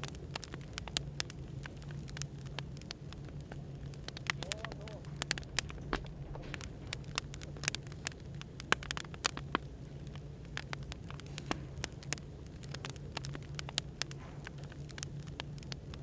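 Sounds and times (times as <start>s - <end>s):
cafe background hum: 0.0s - 16.0s
firewood crackling: 0.0s - 16.0s.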